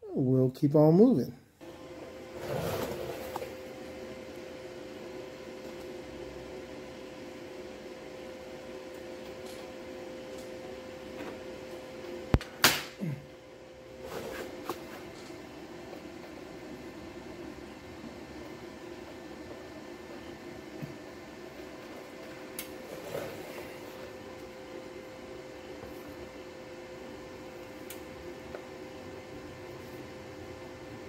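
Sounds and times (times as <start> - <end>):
cooling fan running: 0.0 - 31.0
welding machine humming: 1.6 - 31.0.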